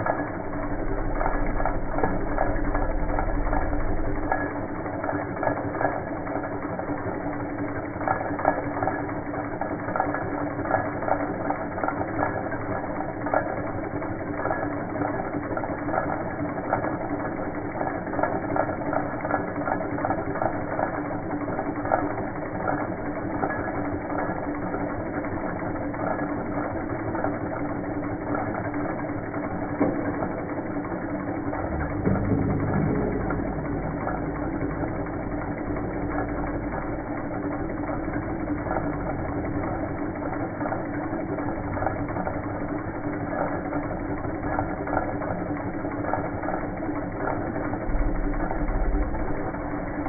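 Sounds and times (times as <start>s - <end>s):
small engines clattering: 0.0s - 50.0s
steady hum: 0.0s - 50.0s.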